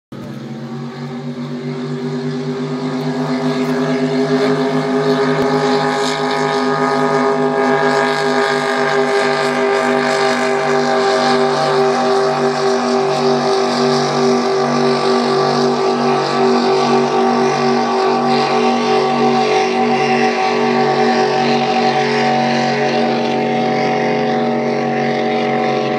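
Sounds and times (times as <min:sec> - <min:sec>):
racing boat engines droning: 0:00.1 - 0:25.9.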